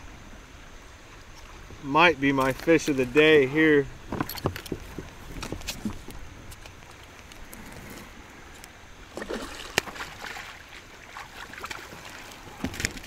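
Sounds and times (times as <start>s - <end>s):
water sloshing around kayak: 1.0s - 13.0s.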